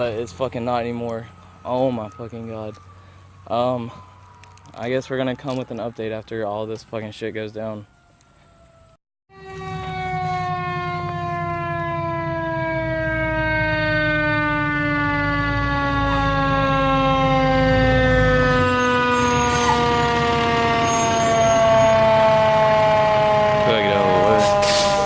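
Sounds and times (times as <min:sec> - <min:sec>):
fire engine siren: 0:00.0 - 0:25.0.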